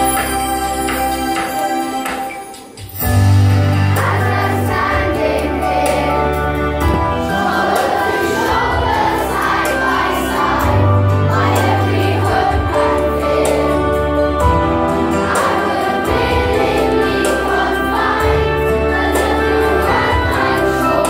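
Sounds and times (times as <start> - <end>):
musical accompaniment with bass: 0.0 - 21.0
children singing: 3.8 - 21.0.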